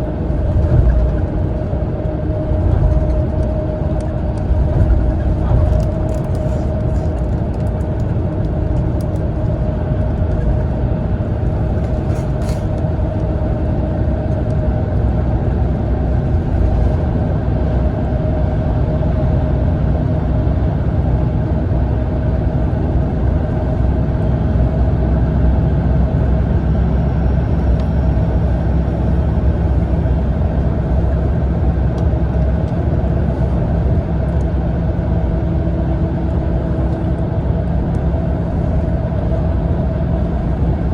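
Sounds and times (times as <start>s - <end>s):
engine and tyre rumble: 0.0s - 40.9s.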